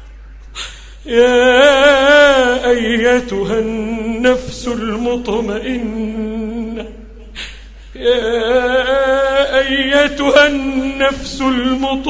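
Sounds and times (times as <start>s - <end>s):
man chanting melodically: 1.0s - 7.4s, 8.0s - 12.0s.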